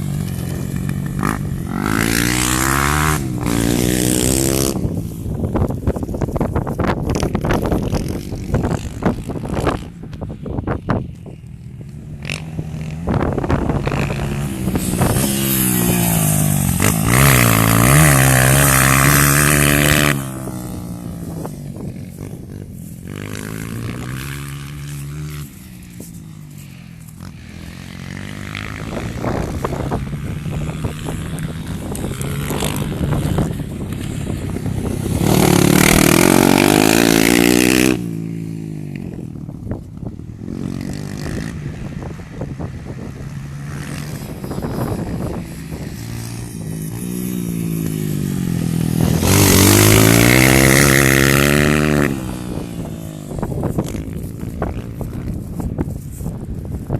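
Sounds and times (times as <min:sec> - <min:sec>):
motorcycle engine revving: 0:00.0 - 0:56.8.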